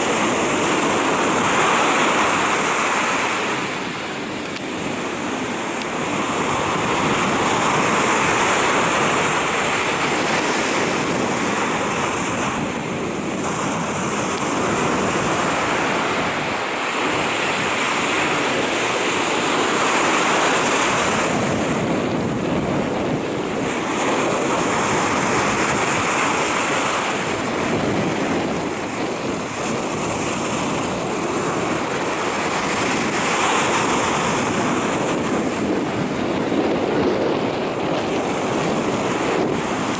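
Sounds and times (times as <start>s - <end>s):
sea surf breaking on beach: 0.0s - 39.9s.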